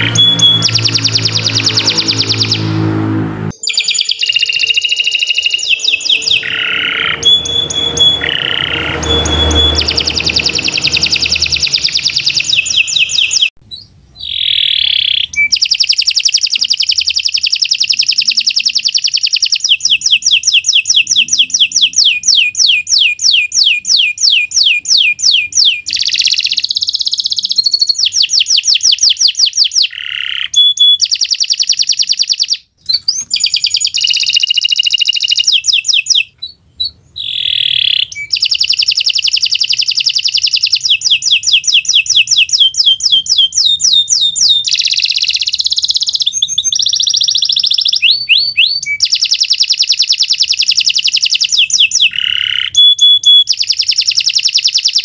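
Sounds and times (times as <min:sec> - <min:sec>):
canary singing trills: 0:00.0 - 0:02.9, 0:03.5 - 0:55.0.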